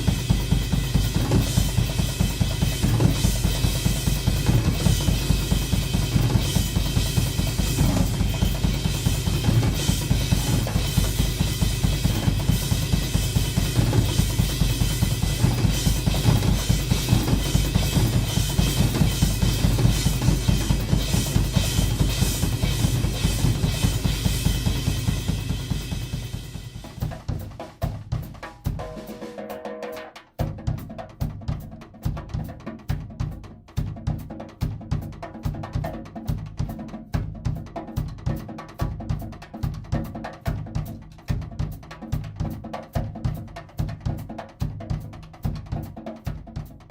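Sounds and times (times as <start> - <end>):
drum kit solo: 0.0 - 46.9.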